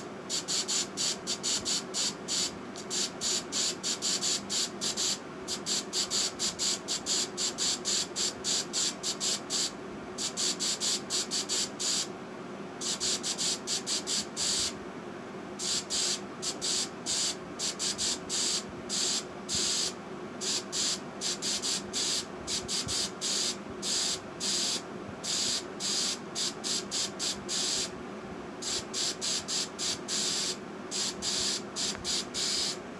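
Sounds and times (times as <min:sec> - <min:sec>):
faint background hum: 0:00.0 - 0:32.9
aerosol spray hissing bursts: 0:00.3 - 0:12.1, 0:12.8 - 0:14.8, 0:15.6 - 0:27.9, 0:28.6 - 0:32.8.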